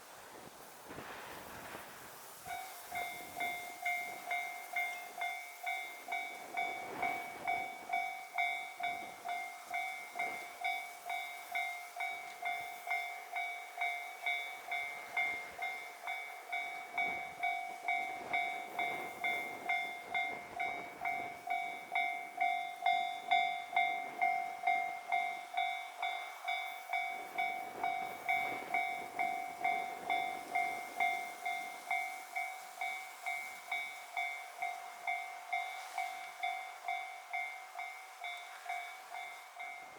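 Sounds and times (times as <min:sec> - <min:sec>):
level crossing warning bell: 0:02.5 - 0:39.9.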